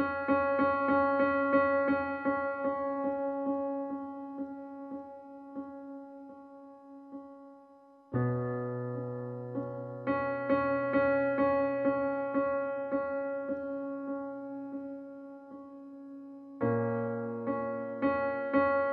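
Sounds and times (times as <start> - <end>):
piano chords: 0.0 - 18.9.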